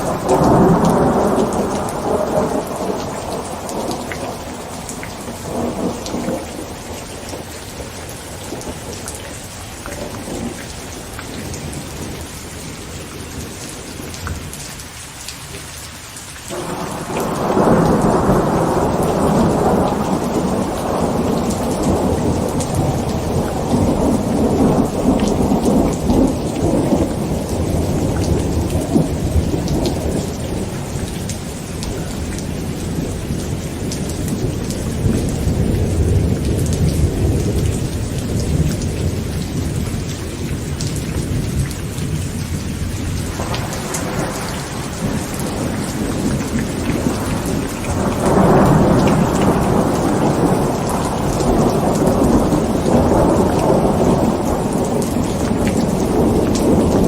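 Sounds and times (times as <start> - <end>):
thunder rumbling: 0.0 - 14.6, 16.5 - 57.0
heavy rain on a tent: 0.0 - 57.0.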